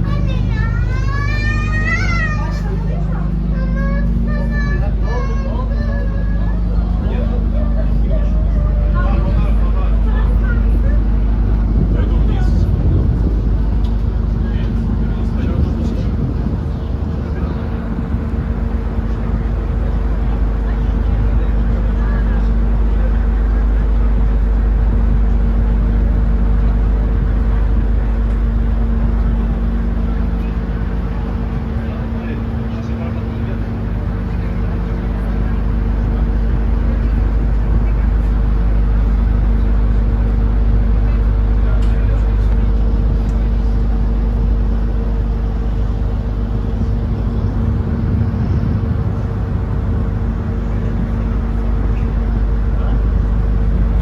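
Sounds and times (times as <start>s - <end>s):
ferry engine droning: 0.0s - 54.0s.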